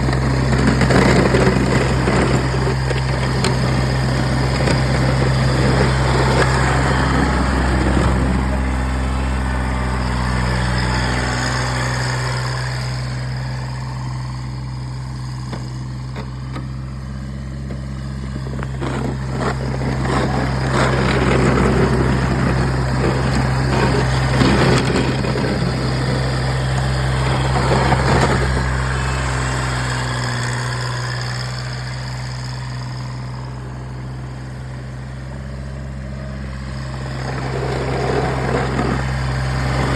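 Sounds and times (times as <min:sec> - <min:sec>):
rushing scraping noise: 0:00.0 - 0:13.8, 0:15.5 - 0:31.4, 0:36.8 - 0:39.9
tractor diesel engine running: 0:00.0 - 0:39.9.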